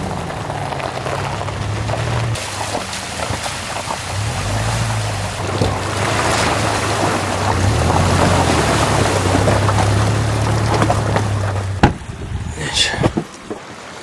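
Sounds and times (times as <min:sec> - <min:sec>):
low engine drone: 0:00.0 - 0:13.2
tyres splashing through water: 0:00.0 - 0:14.0.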